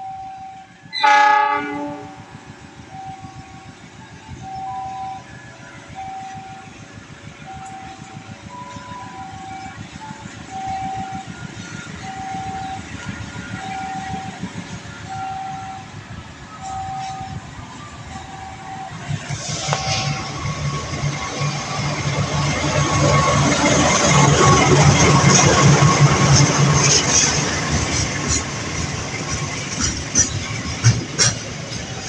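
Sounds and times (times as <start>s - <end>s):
level crossing warning tone: 0.0s - 29.7s
freight train rumbling and clattering: 0.0s - 32.0s.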